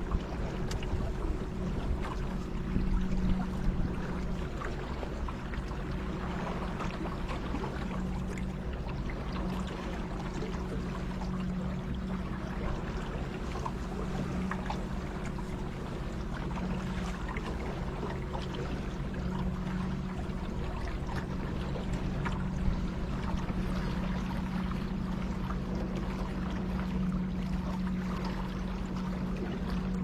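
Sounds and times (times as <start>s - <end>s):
boat motor humming: 0.0s - 30.0s
water splashing along hull: 0.0s - 30.0s.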